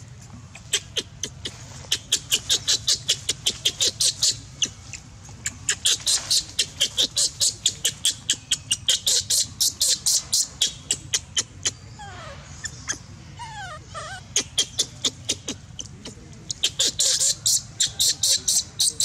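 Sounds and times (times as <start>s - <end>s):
baby monkey squealing: 0.6s - 19.0s.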